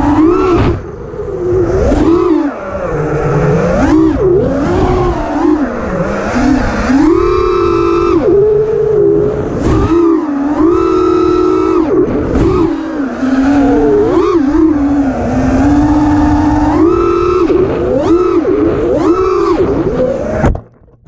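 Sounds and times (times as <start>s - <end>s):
quadcopter motors whining: 0.0s - 20.5s.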